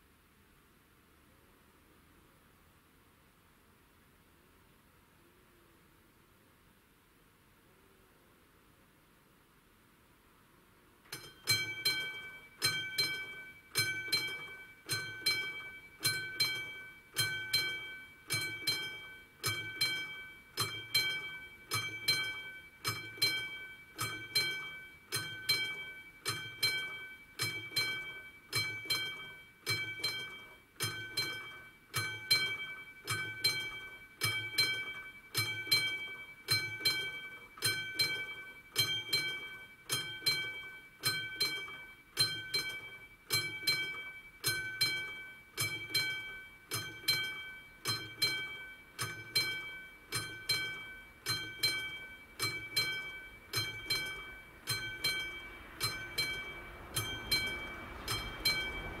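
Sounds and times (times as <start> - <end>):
level crossing bell ringing: 11.1 - 59.0.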